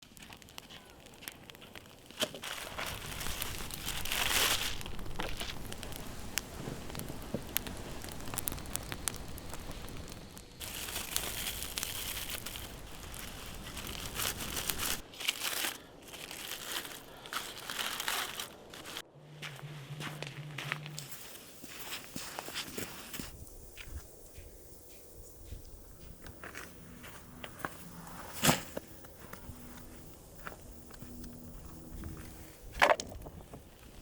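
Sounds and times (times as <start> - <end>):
snow crunching: 0.0 - 32.8.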